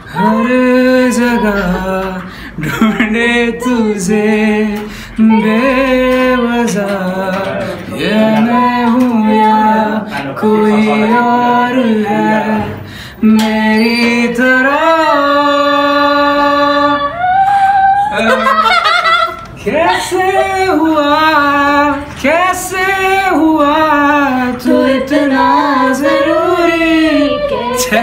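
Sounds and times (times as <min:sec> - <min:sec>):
man singing: 0:00.0 - 0:17.1, 0:19.6 - 0:28.0.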